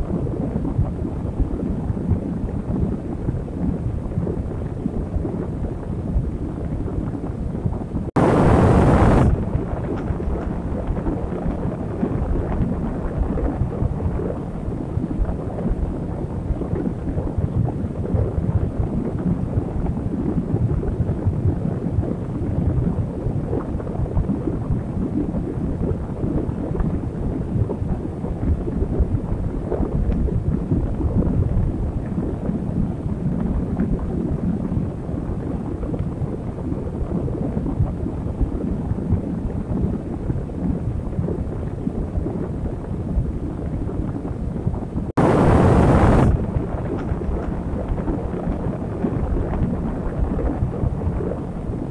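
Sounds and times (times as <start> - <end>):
gusty wind on microphone: 0.0 - 51.9.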